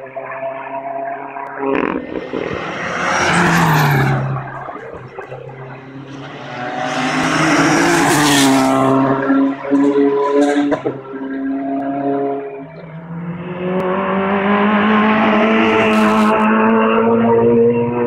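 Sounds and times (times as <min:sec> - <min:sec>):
rally cars passing at speed: 0:00.0 - 0:18.0.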